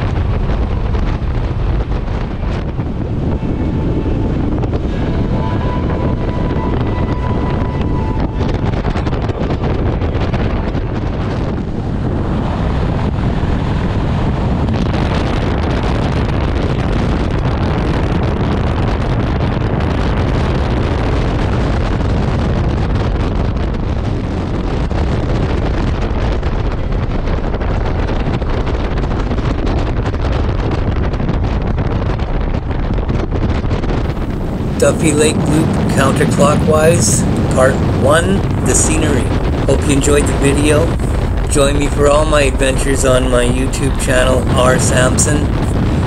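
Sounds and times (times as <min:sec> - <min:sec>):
motorcycle ride rumble: 0:00.0 - 0:46.0
wind blasting over microphone: 0:00.0 - 0:46.0.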